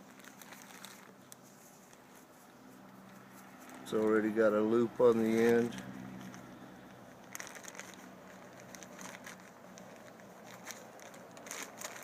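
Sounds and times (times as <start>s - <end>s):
hands handling cord: 0.0s - 12.0s.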